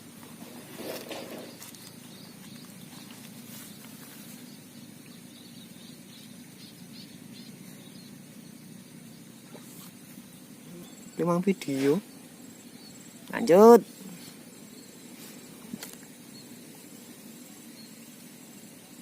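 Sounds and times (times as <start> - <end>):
steady low background hum: 0.0 - 19.0.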